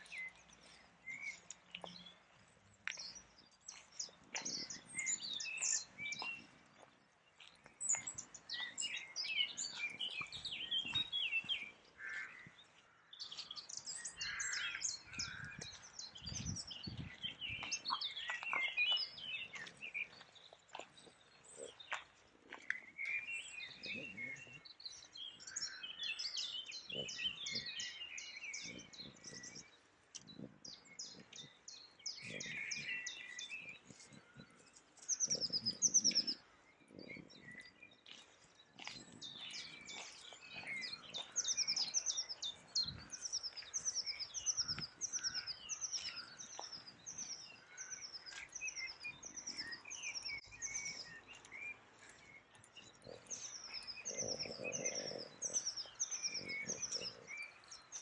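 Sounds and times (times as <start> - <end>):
faint footsteps on path: 0.0 - 58.0
songbirds singing and chirping: 0.0 - 58.0.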